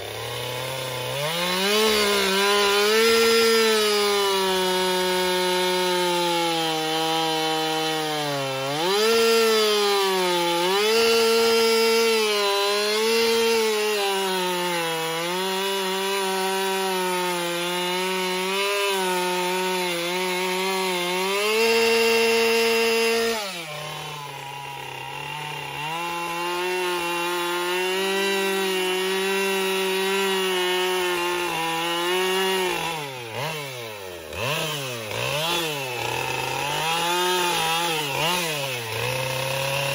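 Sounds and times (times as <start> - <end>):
chainsaw carving into a log: 0.0 - 39.9.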